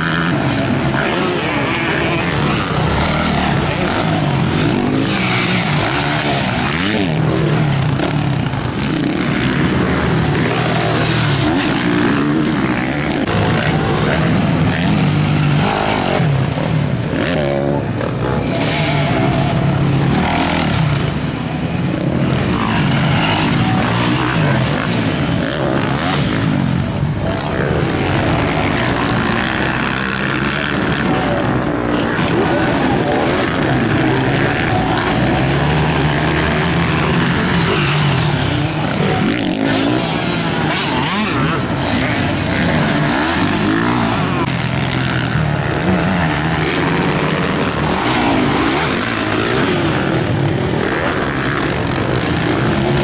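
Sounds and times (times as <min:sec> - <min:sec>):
motocross bikes revving: 0:00.0 - 0:53.0.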